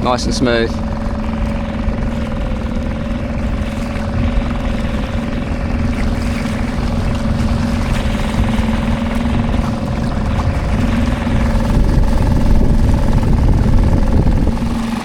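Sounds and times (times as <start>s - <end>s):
outboard motor running: 0.0s - 15.0s
water and hull rumble: 0.0s - 15.0s.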